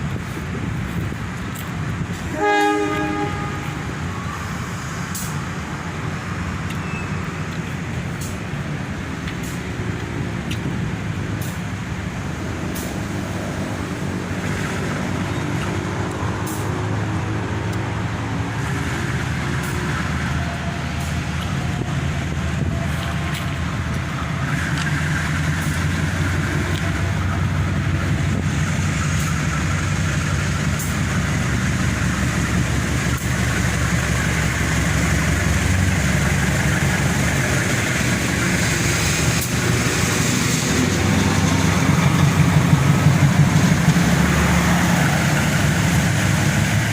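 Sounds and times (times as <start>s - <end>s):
heavy engine humming: 0.0s - 46.9s.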